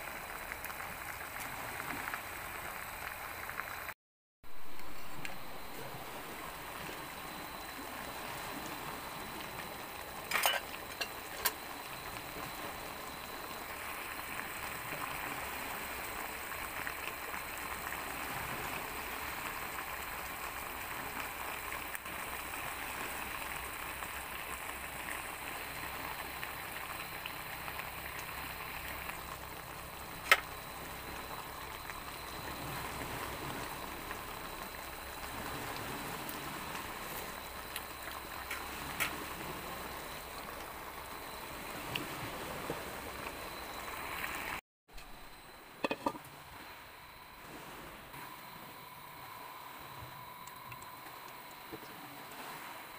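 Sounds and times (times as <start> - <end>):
pot simmering with bubbling hiss: 0.0 - 52.9.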